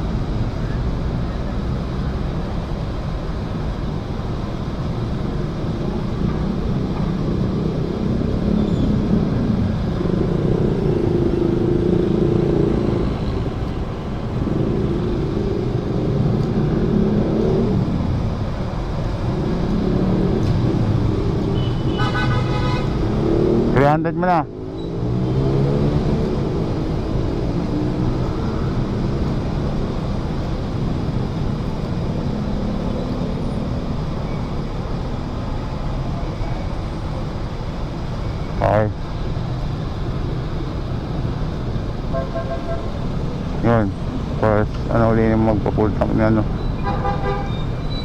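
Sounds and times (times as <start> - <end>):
vehicle engines rumbling: 0.0 - 48.0.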